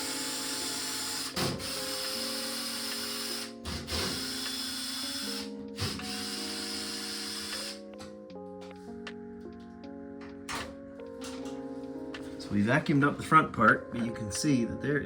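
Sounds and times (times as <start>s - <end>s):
background music with sustained chords: 0.0s - 15.0s.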